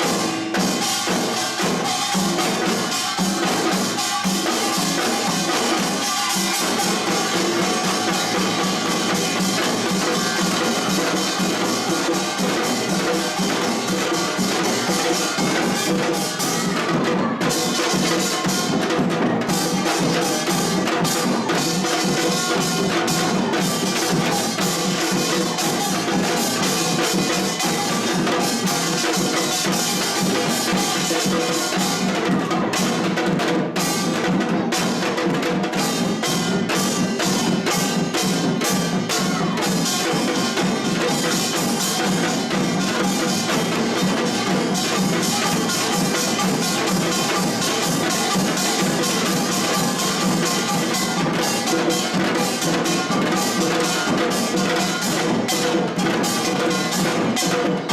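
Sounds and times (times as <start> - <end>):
folk percussion ensemble drumming: 0.0 - 57.9.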